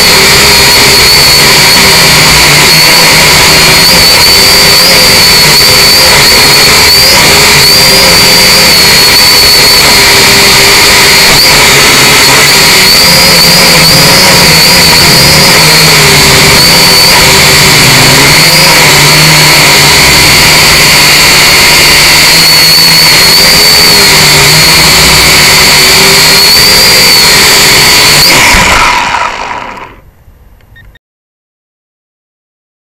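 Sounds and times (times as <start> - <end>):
quadcopter motors whining: 0.0 - 30.1.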